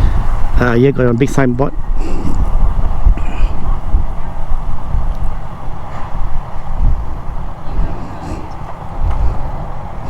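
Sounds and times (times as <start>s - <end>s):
motorcycle road and engine noise: 0.0s - 10.0s
wind buffeting microphone: 0.0s - 10.0s.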